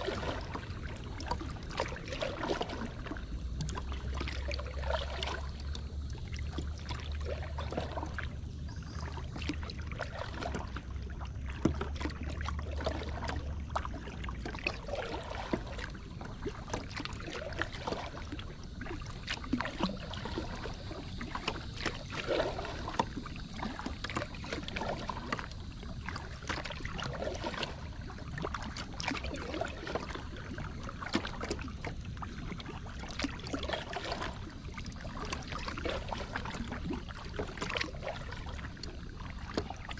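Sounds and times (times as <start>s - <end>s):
low steady rumble: 0.0s - 39.9s
water splashing around kayak: 0.0s - 39.9s.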